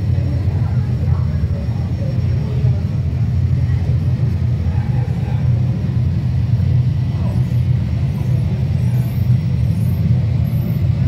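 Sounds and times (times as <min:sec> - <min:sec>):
faint indistinct voices: 0:00.0 - 0:11.0
low hall rumble: 0:00.0 - 0:11.0.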